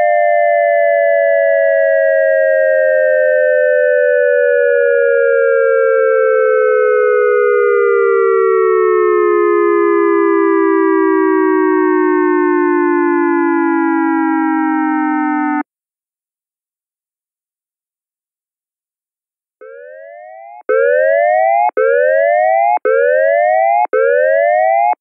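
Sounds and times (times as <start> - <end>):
dual-tone electronic siren: 0.0 - 15.7, 19.6 - 25.0.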